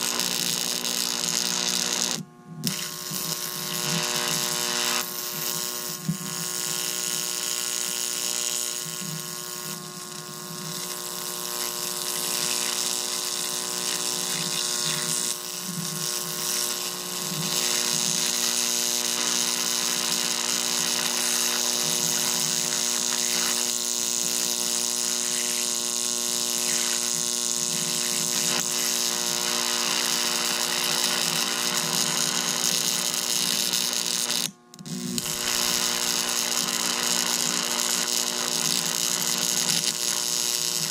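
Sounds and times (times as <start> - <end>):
electric arc buzzing with hiss: 0.0 - 40.9.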